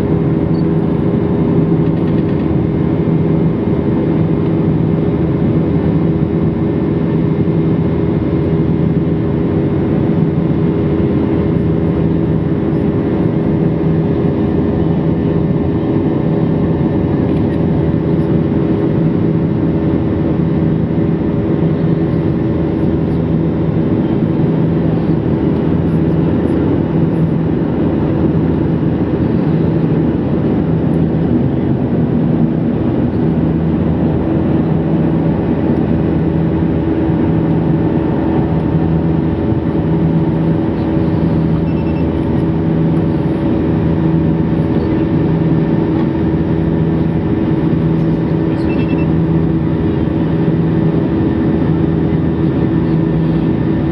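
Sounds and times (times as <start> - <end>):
jet engine cabin drone: 0.0 - 53.9
pulsing low hum: 0.0 - 53.9.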